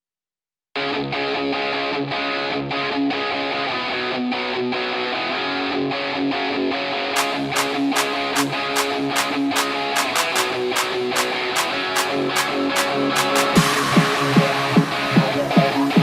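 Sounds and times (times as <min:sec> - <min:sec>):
electric guitar strumming music: 0:00.8 - 0:16.0.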